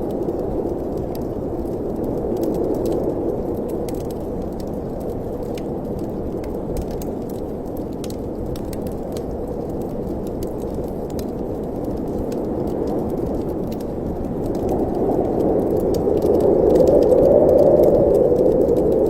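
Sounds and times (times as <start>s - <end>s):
fireplace fire crackling: 0.0s - 19.0s
low rush of wind: 0.0s - 19.0s.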